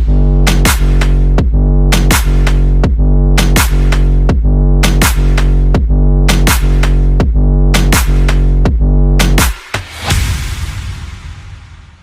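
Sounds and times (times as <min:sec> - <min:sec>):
music with deep bass and drums: 0:00.0 - 0:11.8.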